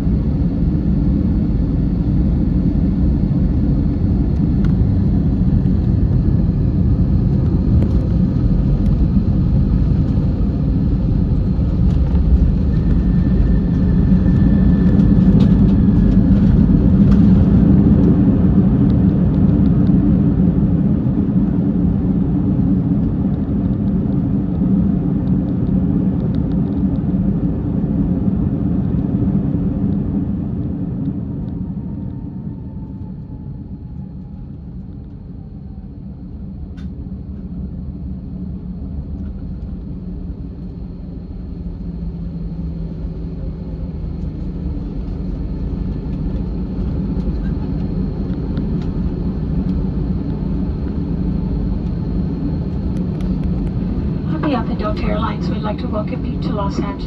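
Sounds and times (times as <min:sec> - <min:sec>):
aircraft engine rumble in cabin: 0:00.0 - 0:57.0.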